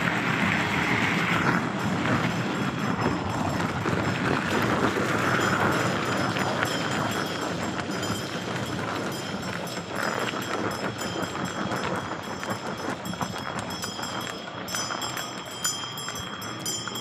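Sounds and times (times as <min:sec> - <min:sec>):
cart wheels rumbling on dirt road: 0:00.0 - 0:17.0.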